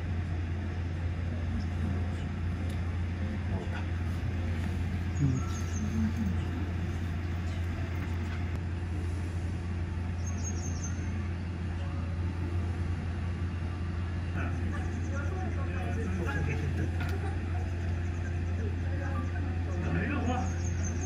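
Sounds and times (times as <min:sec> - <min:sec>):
low machinery hum: 0:00.0 - 0:21.0
faint voices: 0:00.4 - 0:08.6, 0:11.0 - 0:21.0.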